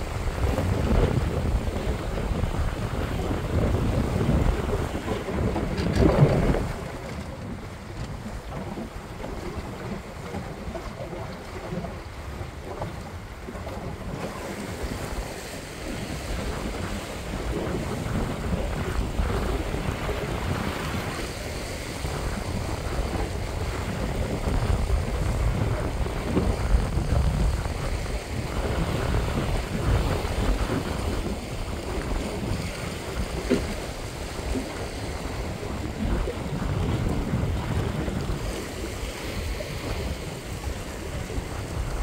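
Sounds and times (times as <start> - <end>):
choppy water splashing: 0.0 - 42.0
wind buffeting microphone: 0.0 - 42.0.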